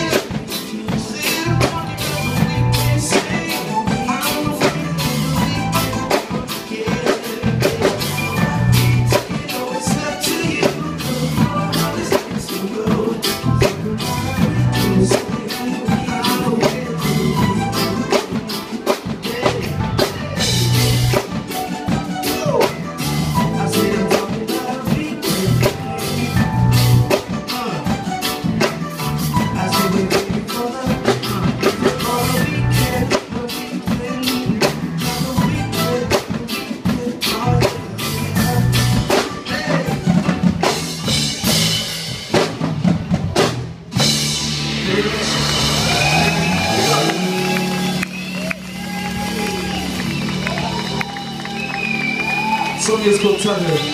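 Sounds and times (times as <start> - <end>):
bass: 0.0 - 53.9
drum kit steady beat: 0.0 - 53.9
electric guitar: 0.0 - 53.9
keyboards: 0.0 - 53.9
live band playing amplified music: 0.0 - 53.9.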